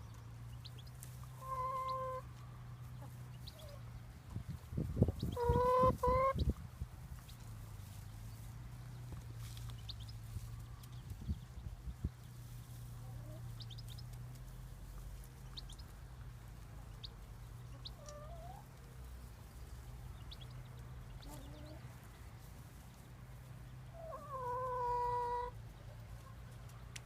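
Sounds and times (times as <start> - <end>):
chickens calling: 0.0 - 27.0.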